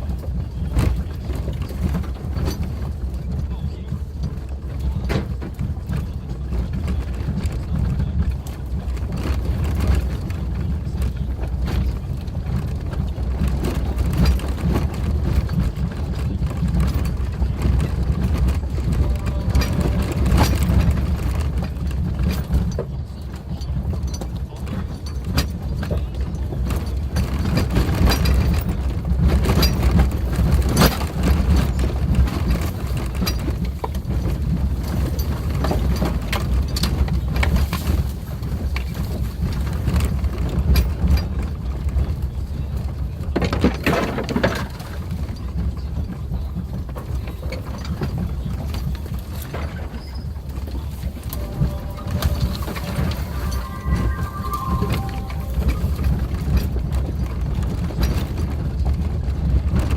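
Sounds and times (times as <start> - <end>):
knocks and clatters from bumps: 0.0 - 51.4
engine and tyres rumbling: 0.0 - 52.4, 55.8 - 59.9.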